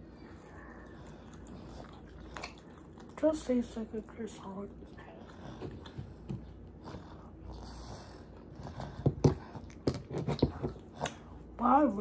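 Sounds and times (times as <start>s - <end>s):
quiet chewing: 0.0s - 11.6s.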